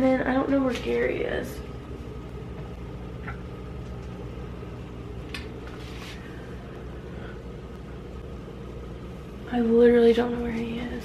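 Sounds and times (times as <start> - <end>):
aquarium filter motor hum: 0.0 - 11.0.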